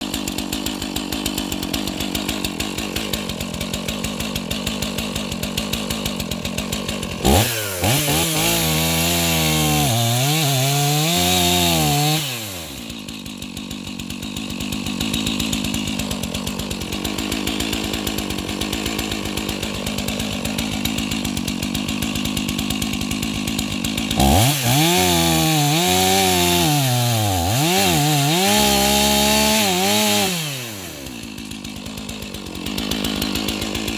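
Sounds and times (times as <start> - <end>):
chainsaw running and revving: 0.0 - 33.9.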